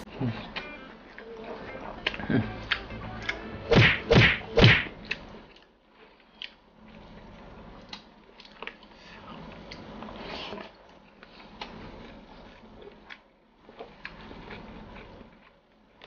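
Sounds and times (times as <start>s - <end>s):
biting and chewing: 0.4s - 16.0s.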